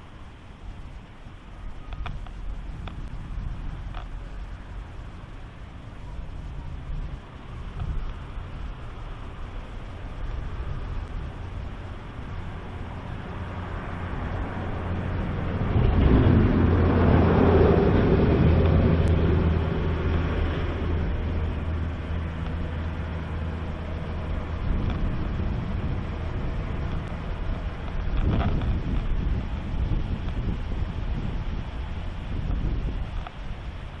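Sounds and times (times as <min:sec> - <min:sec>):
engine drone passing by: 0:00.0 - 0:34.0
wind noise: 0:00.0 - 0:34.0.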